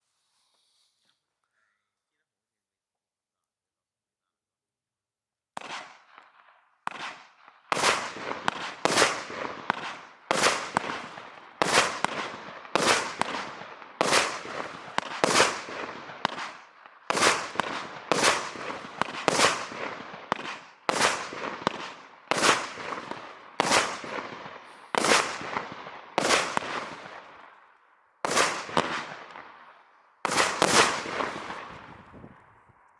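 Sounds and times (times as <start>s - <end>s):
fireworks bangs: 5.6s - 32.9s.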